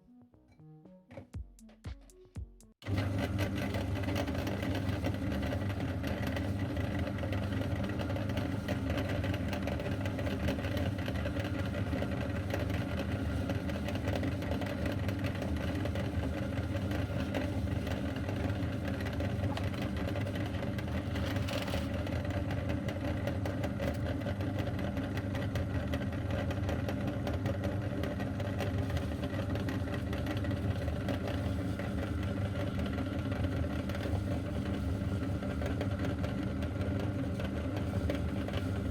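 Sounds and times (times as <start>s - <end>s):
meat grinder motor humming: 2.8s - 38.9s.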